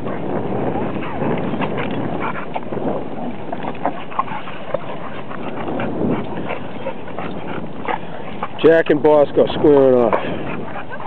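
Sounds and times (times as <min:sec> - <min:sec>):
dogs play-fighting and vocalizing: 0:00.0 - 0:11.0.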